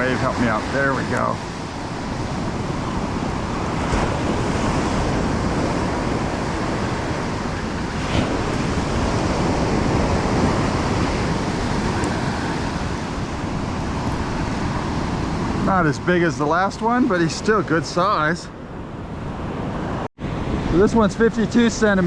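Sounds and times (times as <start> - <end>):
surf breaking on beach: 0.0 - 18.4.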